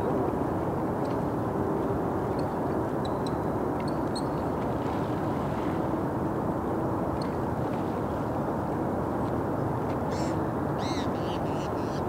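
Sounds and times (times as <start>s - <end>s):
freeway traffic rumble: 0.0s - 12.0s.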